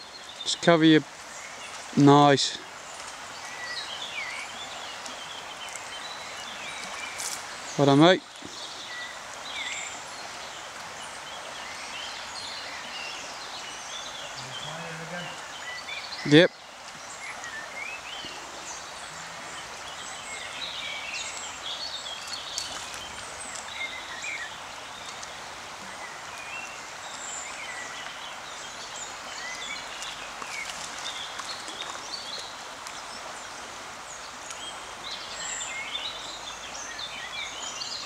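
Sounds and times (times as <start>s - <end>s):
birds singing and chirping: 0.0s - 38.0s
river water flowing: 0.0s - 38.0s.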